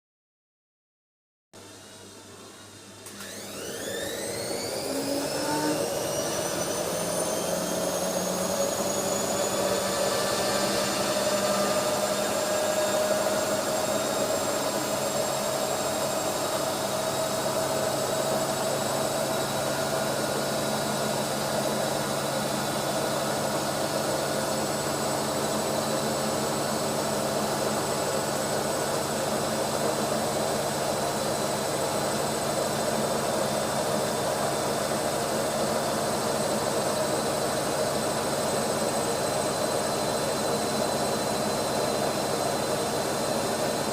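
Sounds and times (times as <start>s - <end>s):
washing machine spin whine: 1.6s - 43.9s.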